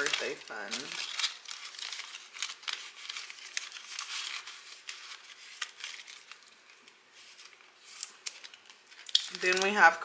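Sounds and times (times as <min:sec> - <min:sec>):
small clicks and crackles: 0:00.0 - 0:09.8
bills and plastic pouch rustling: 0:00.0 - 0:10.0.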